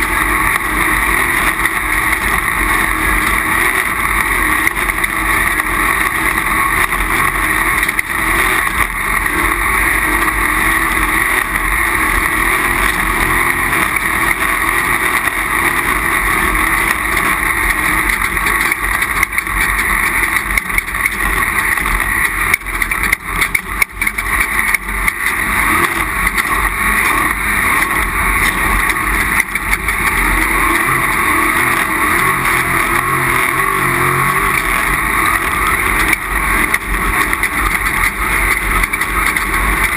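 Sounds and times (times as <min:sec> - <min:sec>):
race vehicle engine running hard: 0:00.0 - 0:39.9.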